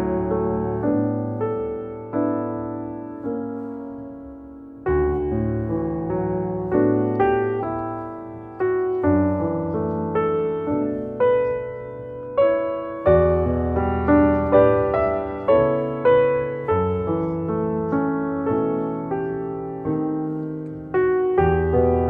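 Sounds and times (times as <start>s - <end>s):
slow gentle piano: 0.0s - 22.0s.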